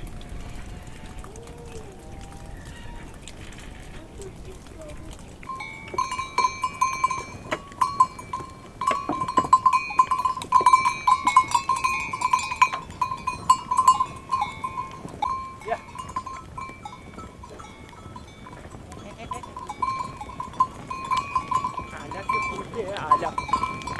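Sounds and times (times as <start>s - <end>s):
sheep bells clanking and jingling: 2.2s - 23.9s.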